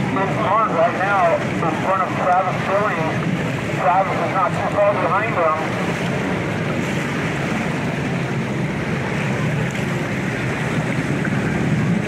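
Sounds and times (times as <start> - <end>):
jet ski engines droning: 0.0 - 12.0
wind buffeting microphone: 0.0 - 12.0.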